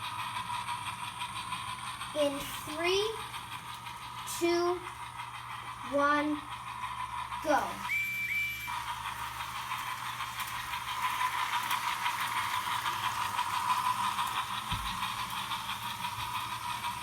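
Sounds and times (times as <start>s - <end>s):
wheels clicking on rails: 0.0s - 17.0s
electric motor whir: 2.0s - 16.8s.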